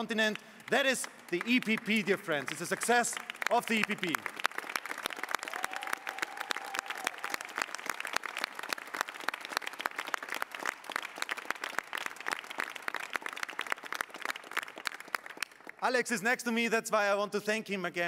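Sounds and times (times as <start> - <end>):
audience applauding: 0.3 - 15.8.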